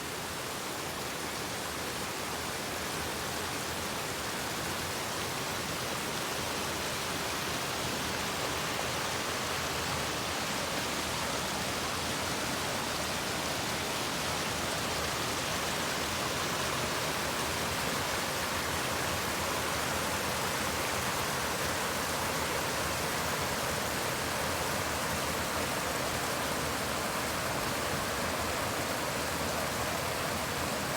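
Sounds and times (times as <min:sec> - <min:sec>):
river water rushing: 0:00.1 - 0:30.9.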